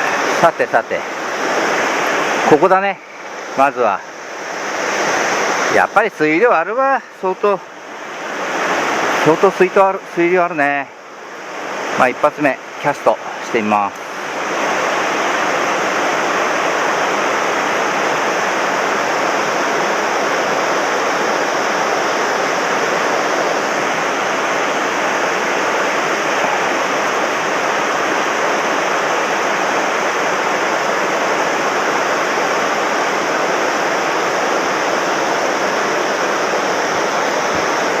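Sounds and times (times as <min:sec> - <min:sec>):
stream rushing: 0:00.0 - 0:38.0.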